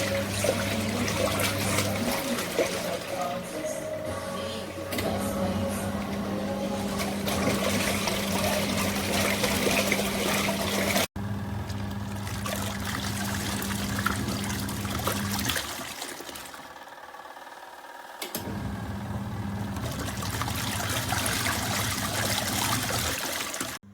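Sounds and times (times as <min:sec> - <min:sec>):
water churning and trickling: 0:00.0 - 0:16.9, 0:19.6 - 0:23.8
washing machine motor hum: 0:00.0 - 0:23.9.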